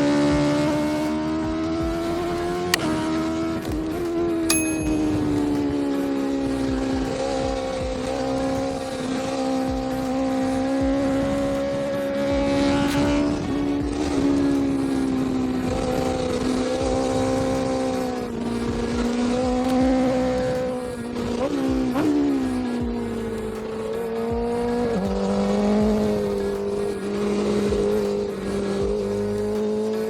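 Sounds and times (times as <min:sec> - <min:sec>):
motorcycle engine running: 0:00.3 - 0:30.0.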